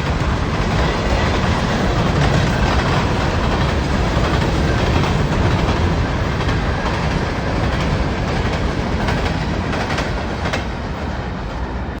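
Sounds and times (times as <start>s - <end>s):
wheels clacking on rail joints: 0.0s - 11.7s
freight train rumbling: 0.0s - 12.0s.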